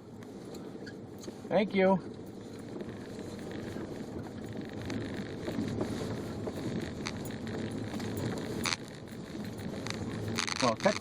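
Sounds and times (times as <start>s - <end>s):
engine and tyres rumbling: 0.0s - 11.0s.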